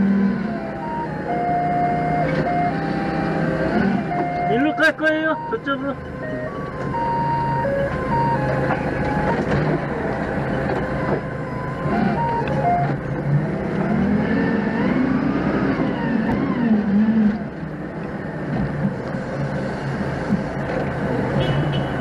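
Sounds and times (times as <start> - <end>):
forklift engine running: 0.0 - 21.3.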